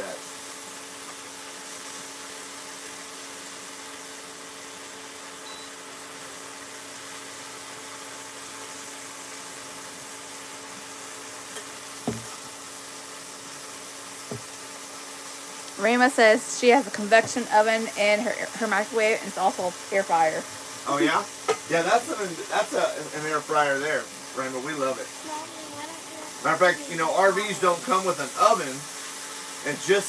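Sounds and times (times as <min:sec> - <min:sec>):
meat sizzling in a frying pan: 0:00.0 - 0:30.0
faint steady hum: 0:04.6 - 0:30.0.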